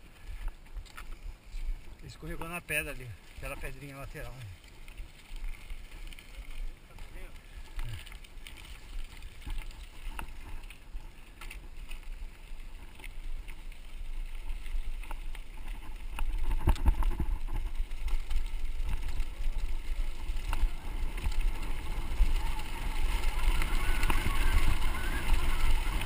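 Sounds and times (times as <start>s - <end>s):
bike knocking and rattling: 2.1s - 26.0s
wind rumbling on microphone: 3.0s - 26.0s.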